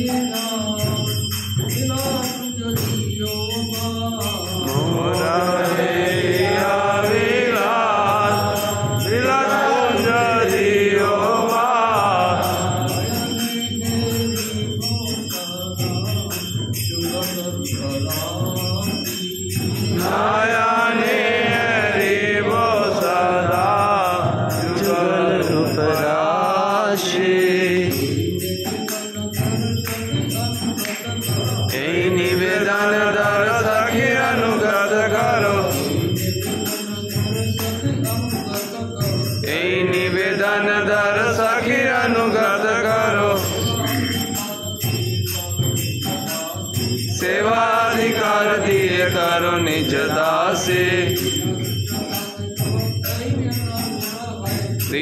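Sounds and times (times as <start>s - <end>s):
jingling metal percussion: 0.0s - 55.0s
men singing in chorus: 0.0s - 55.0s.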